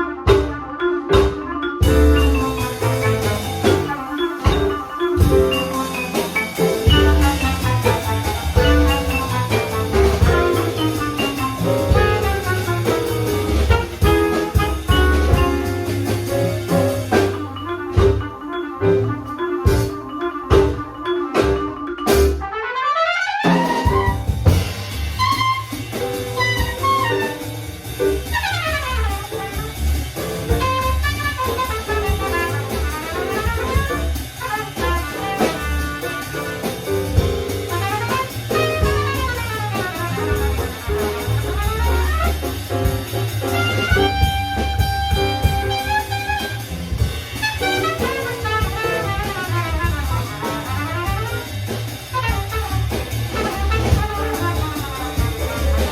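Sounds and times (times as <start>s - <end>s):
jazz band playing swing: 0.0s - 55.9s
trumpet: 0.0s - 55.9s.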